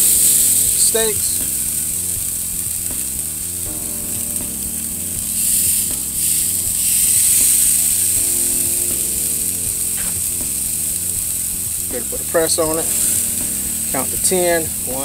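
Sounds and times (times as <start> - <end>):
background music: 0.0 - 15.0
steak sizzling on a grill: 0.0 - 15.0.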